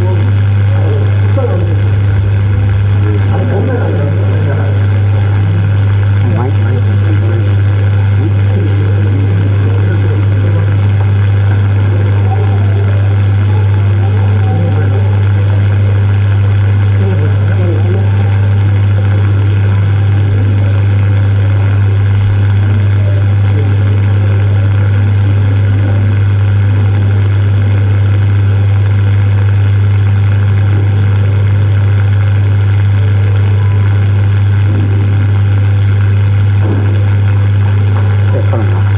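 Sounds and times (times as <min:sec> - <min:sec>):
murmur of voices: 0:00.0 - 0:29.1, 0:32.7 - 0:38.9
low electrical hum: 0:00.0 - 0:38.9.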